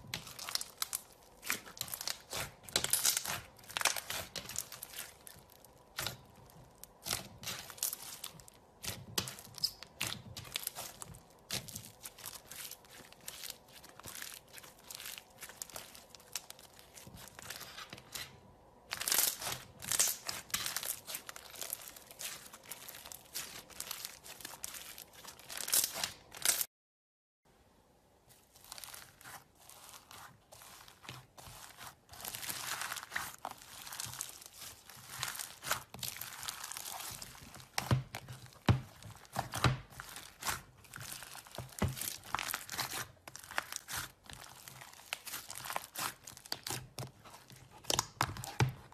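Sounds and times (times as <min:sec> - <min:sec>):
slime crackling and popping: 0:00.0 - 0:18.3, 0:18.9 - 0:26.7, 0:28.5 - 0:48.9.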